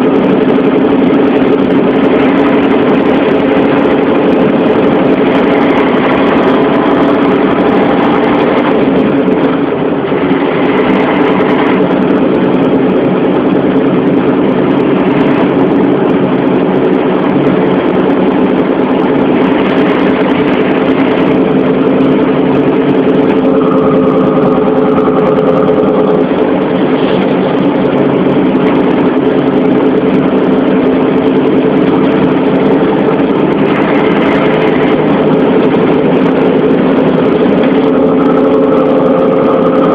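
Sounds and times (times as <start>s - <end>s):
heavy vehicle engine droning: 0.0s - 39.9s.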